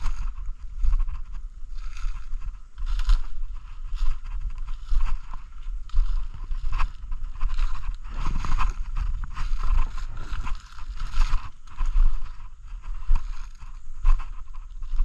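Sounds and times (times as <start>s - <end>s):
footsteps crunching dry leaves: 0.0s - 15.0s
low microphone rumble: 0.0s - 15.0s.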